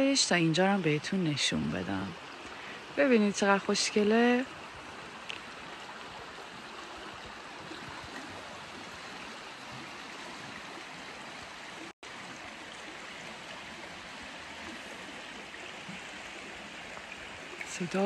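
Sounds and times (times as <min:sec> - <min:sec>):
stream flowing water: 0:00.0 - 0:18.0.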